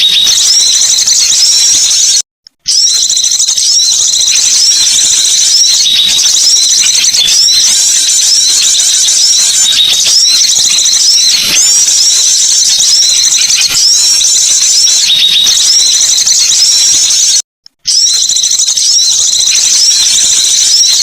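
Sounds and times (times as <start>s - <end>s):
small birds chattering: 0.0s - 21.0s.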